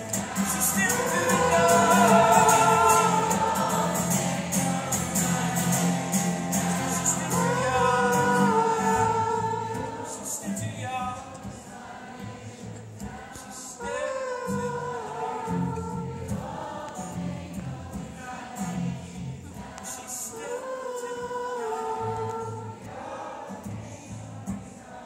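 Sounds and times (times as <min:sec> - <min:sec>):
acoustic guitar: 0:00.0 - 0:25.0
crowd singing: 0:00.0 - 0:25.0.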